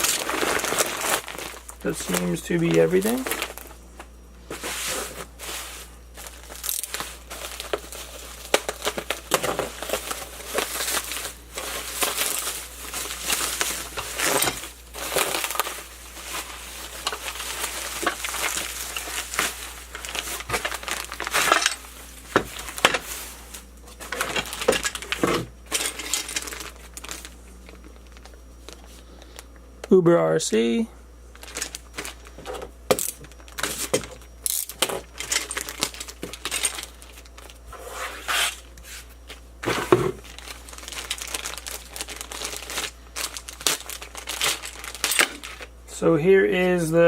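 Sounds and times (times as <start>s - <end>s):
packaging crinkling and rustling: 0.0s - 29.4s, 31.3s - 45.8s.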